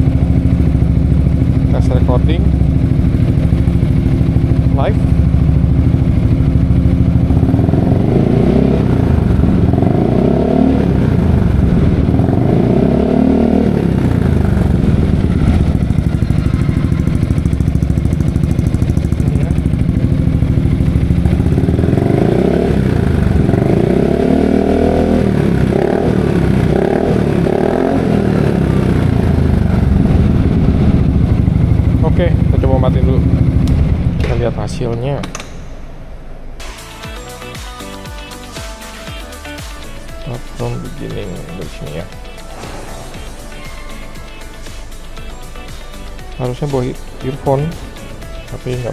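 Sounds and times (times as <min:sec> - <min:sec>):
scooter engine idling and revving: 0:00.0 - 0:48.9.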